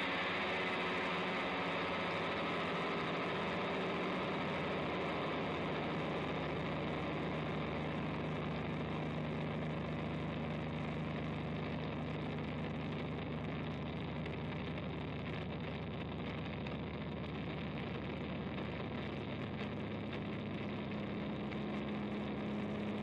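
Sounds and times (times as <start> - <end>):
fuzzed electric guitar: 0.0 - 23.0.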